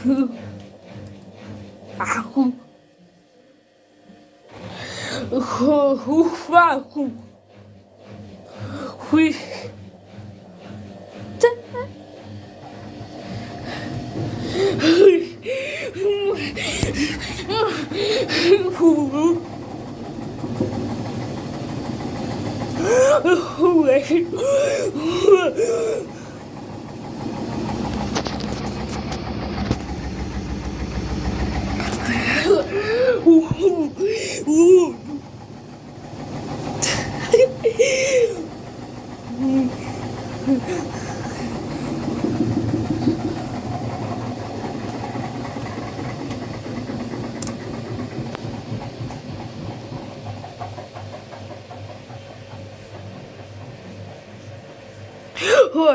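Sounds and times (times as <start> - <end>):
washing machine rumbling: 0.0 - 3.1, 4.4 - 55.9.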